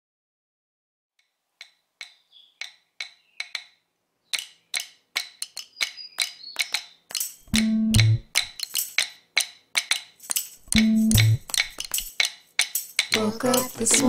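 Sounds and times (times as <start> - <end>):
sharp percussive clicks: 1.6 - 14.0.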